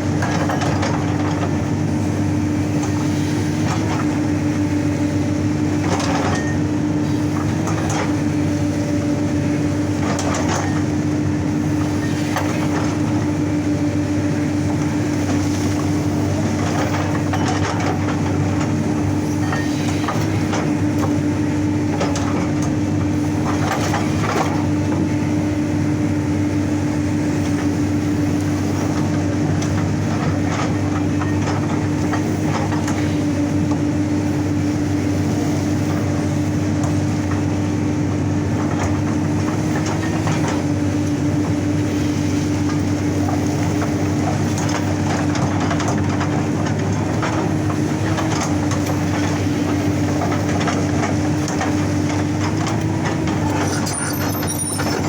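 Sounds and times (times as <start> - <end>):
excavator engine and hydraulics: 0.0 - 55.0.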